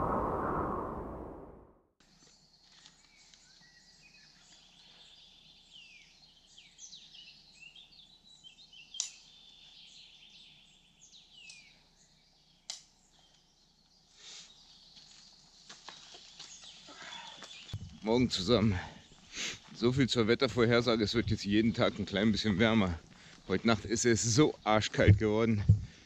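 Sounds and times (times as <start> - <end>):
birds chirping and trilling: 2.1 - 26.0.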